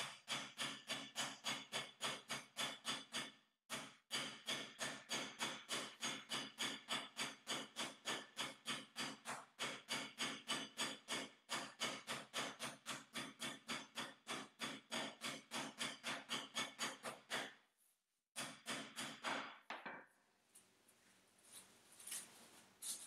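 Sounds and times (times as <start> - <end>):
meat mallet pounding meat: 0.0 - 17.6, 18.4 - 19.7.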